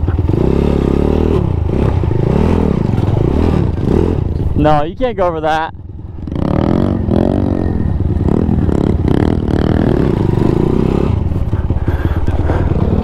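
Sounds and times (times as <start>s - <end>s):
small motorcycle engine revving: 0.0s - 4.5s, 6.2s - 13.0s.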